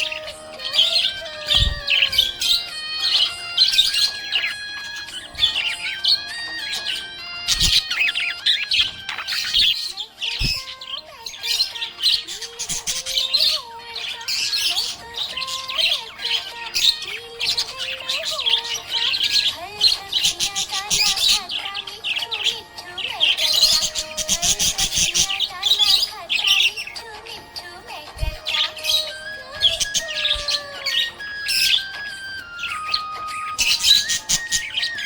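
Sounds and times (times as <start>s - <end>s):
budgerigar chirping and chattering: 0.0s - 35.0s.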